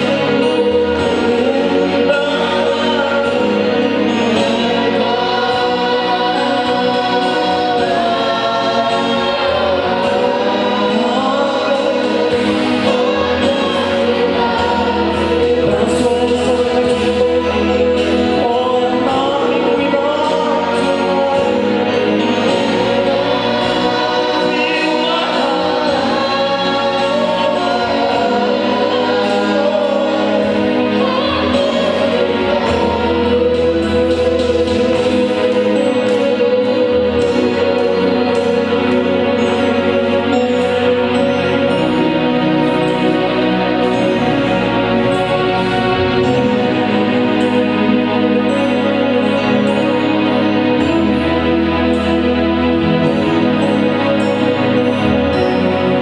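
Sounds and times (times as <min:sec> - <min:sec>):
group of voices singing: 0:00.0 - 0:56.0
instrumental accompaniment: 0:00.0 - 0:56.0.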